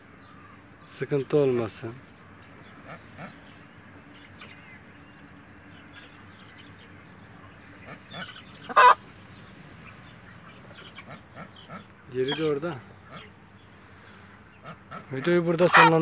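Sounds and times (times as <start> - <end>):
poultry calling: 2.5 - 16.0.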